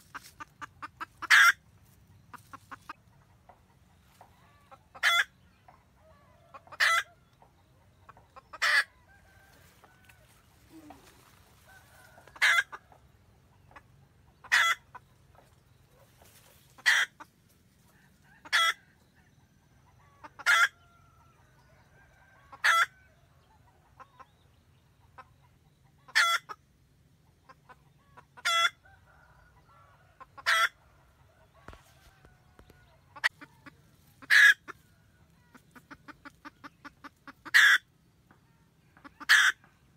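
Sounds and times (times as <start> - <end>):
hen clucking calls: 0.0 - 39.9.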